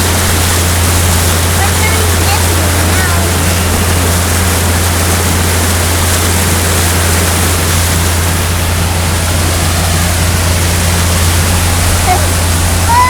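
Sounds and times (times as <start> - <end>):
boat motor humming: 0.0 - 13.0
rush of wind and water: 0.0 - 13.0.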